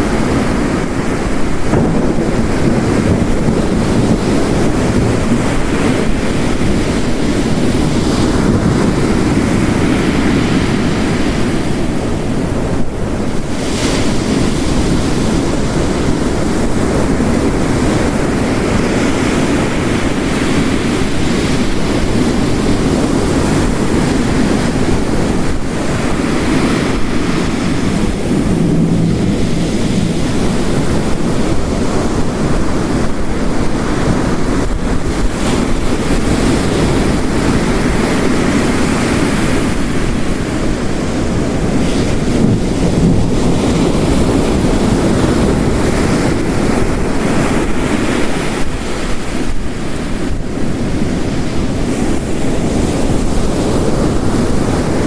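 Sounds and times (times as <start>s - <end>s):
heavy rain: 0.0s - 55.0s
ocean waves crashing: 0.0s - 55.0s.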